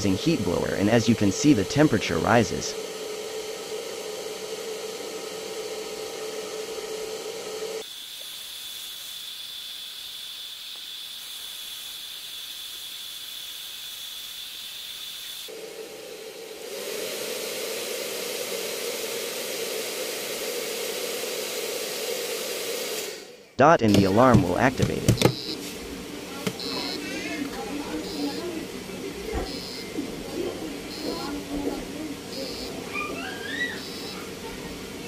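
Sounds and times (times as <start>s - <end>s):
heat blower fan hiss: 0.0s - 35.0s
thin high whine: 0.0s - 35.0s.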